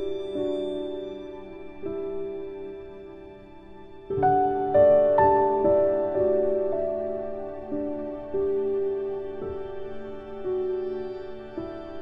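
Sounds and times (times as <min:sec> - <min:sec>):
slow soft instrumental music: 0:00.0 - 0:12.0.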